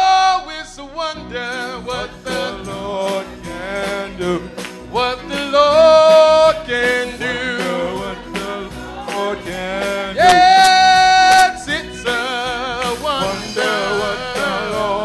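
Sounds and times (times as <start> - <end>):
church band playing: 0.0 - 15.0
man singing gospel: 0.0 - 15.0.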